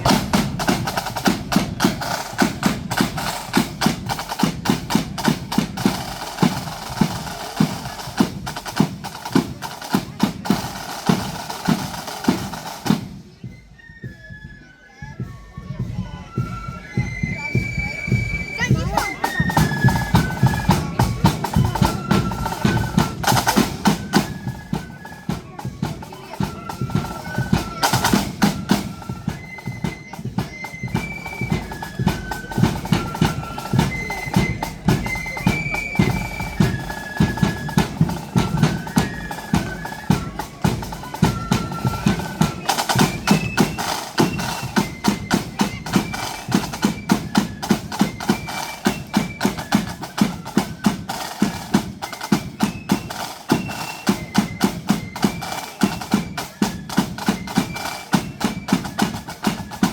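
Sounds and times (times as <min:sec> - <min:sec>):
snare and bass drums: 0:00.0 - 0:14.4, 0:15.2 - 0:59.9
flute melody: 0:00.0 - 0:59.9.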